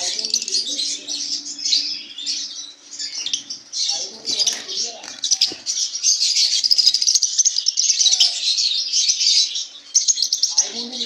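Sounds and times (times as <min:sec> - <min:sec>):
small parrots chirping and chattering: 0:00.0 - 0:11.0.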